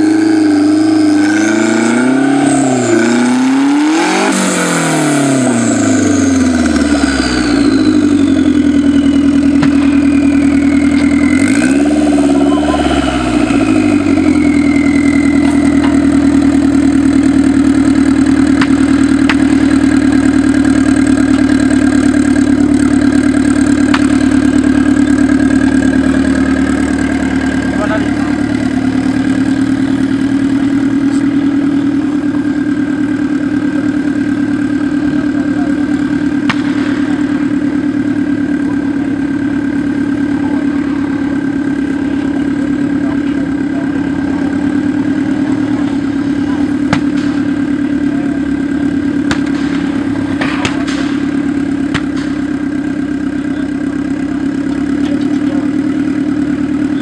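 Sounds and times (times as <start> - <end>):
buggy engine idling: 0.0 - 57.0.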